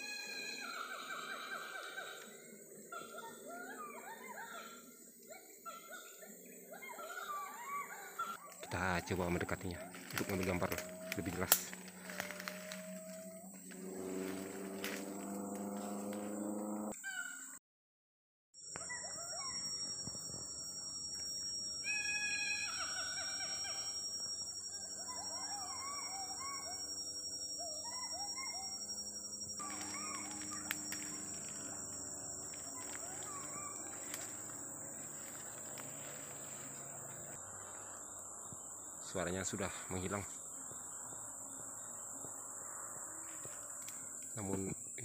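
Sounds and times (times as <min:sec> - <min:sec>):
high-pitched insect drone: 0:00.0 - 0:17.2, 0:18.6 - 0:45.0.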